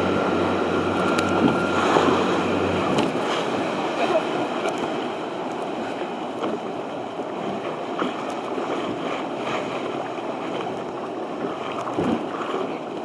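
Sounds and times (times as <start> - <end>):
choppy sea water around boat: 0.0 - 13.0.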